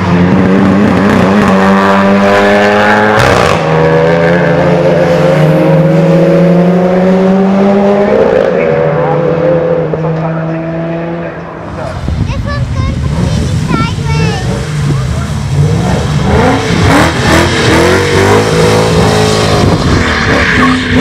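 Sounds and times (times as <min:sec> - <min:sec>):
race car engines at full throttle: 0:00.0 - 0:21.0.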